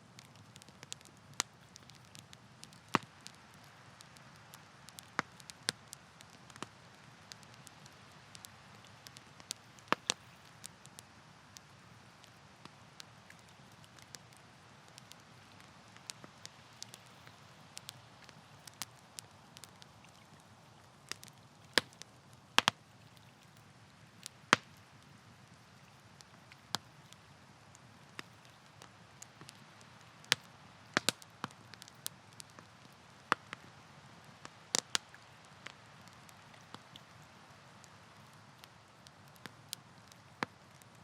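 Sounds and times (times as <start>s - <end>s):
campfire wood crackling: 0.0s - 41.0s
faint steady hiss: 0.0s - 41.0s.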